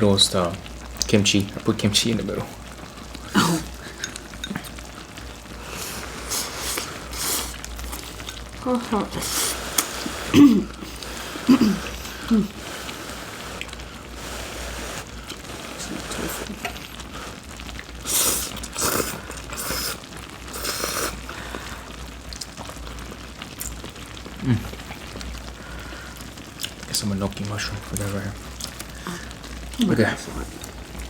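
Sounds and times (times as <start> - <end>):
stew bubbling at a simmer: 0.0 - 31.0.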